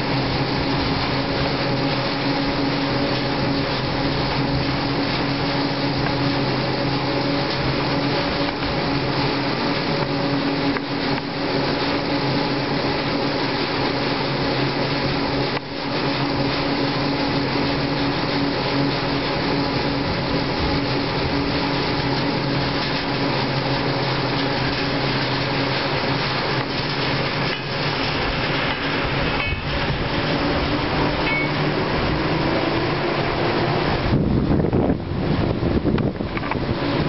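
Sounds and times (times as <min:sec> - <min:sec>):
cableway ropes humming: 0:00.0 - 0:37.0.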